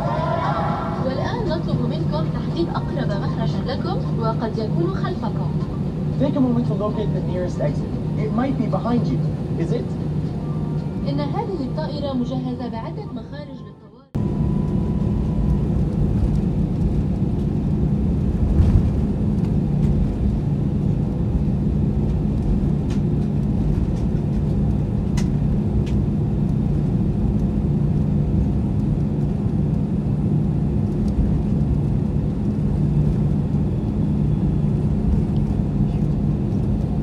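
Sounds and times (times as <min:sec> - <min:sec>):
aircraft cabin engine rumble: 0:00.0 - 0:13.2, 0:14.1 - 0:37.0.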